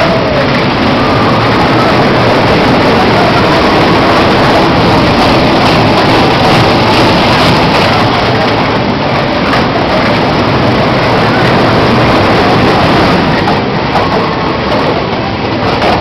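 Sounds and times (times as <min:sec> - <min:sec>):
ride train running on track: 0:00.0 - 0:16.0.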